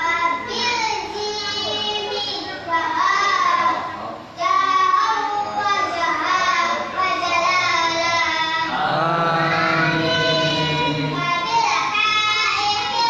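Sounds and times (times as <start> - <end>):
boy chanting into microphone: 0.0 - 13.0.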